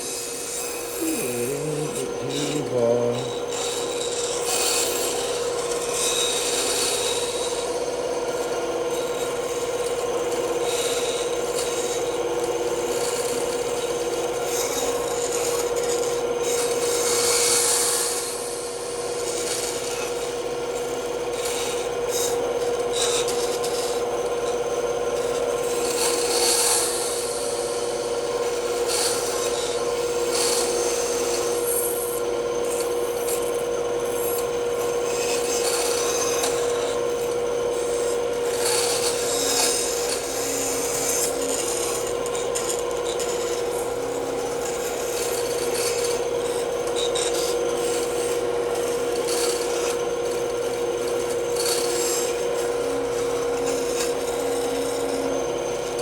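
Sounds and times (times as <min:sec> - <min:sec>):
bandsaw cutting wood: 0:00.0 - 0:56.0.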